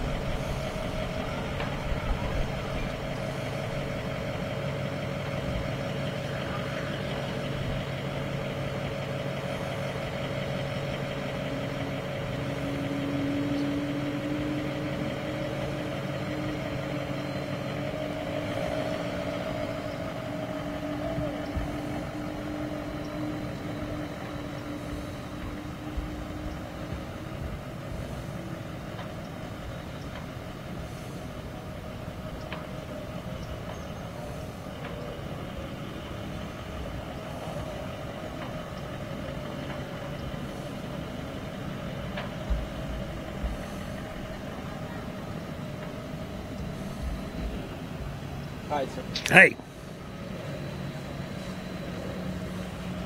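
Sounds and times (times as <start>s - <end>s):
engines idling: 0.0s - 53.0s.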